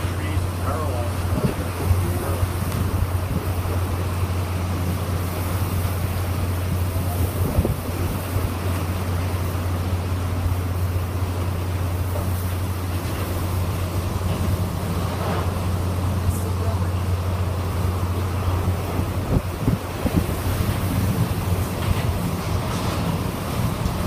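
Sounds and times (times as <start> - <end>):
driving rain: 0.0 - 24.0
wind buffeting microphone: 0.0 - 24.0.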